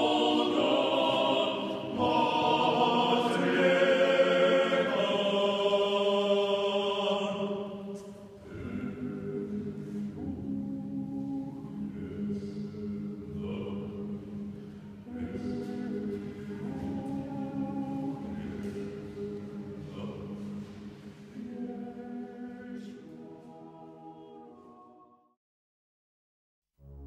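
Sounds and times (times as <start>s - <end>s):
male vocal quartet singing: 0.0s - 24.6s.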